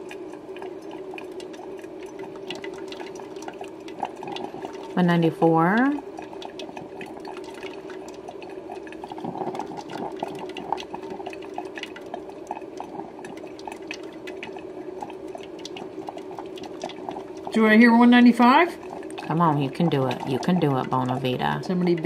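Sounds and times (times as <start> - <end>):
coffee maker gurgling: 0.0 - 22.0.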